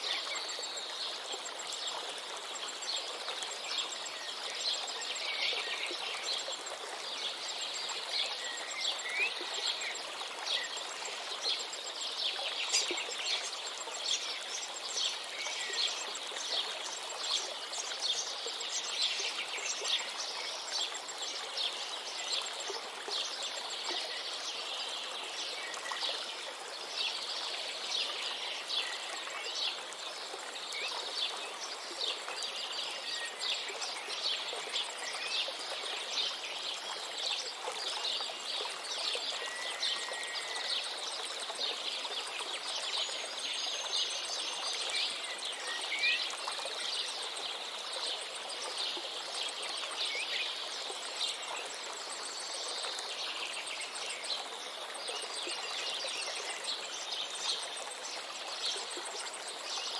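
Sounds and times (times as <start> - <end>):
river running: 0.0 - 59.9.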